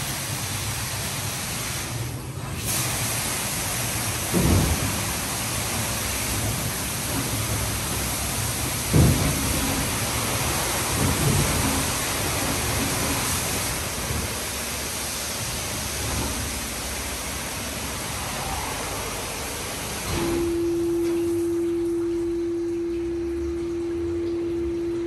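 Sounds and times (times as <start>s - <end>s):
high-pressure water jets spraying: 0.0s - 21.5s.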